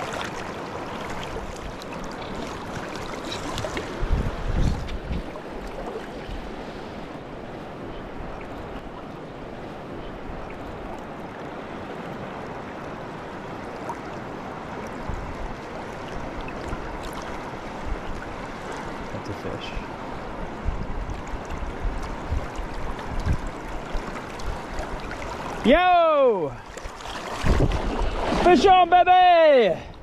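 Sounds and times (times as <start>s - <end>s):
river current rushing: 0.0s - 29.9s.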